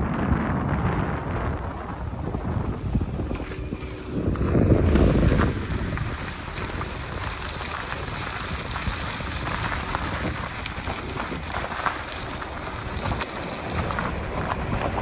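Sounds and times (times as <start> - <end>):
freight train rumbling: 0.0 - 15.0
wind on microphone: 0.0 - 15.0
wheels clattering on rails: 0.2 - 15.0.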